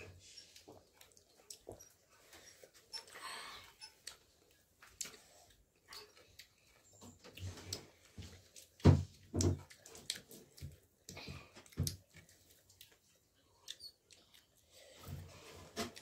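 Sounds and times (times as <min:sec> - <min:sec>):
child chewing food: 0:00.0 - 0:16.0.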